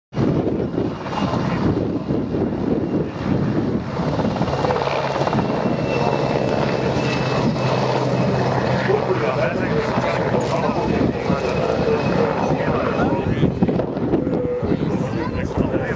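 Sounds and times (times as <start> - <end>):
helicopter rotor beating: 0.1 - 15.9
turbine whine: 0.2 - 15.9.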